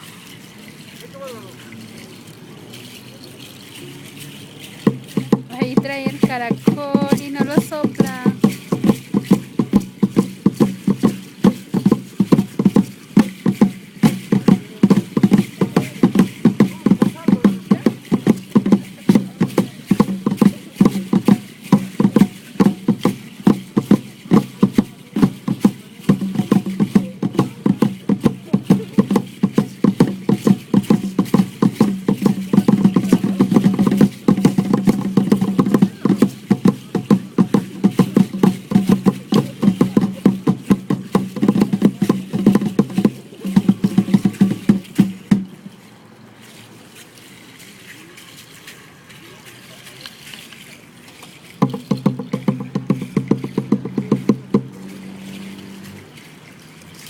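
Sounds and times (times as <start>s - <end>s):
rapid rattling percussion: 0.0s - 57.0s.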